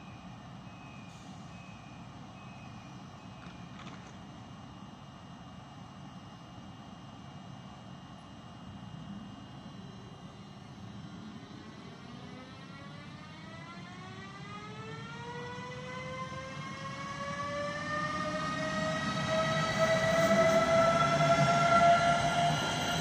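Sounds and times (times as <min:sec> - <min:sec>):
electric locomotive whine: 0:00.0 - 0:23.0.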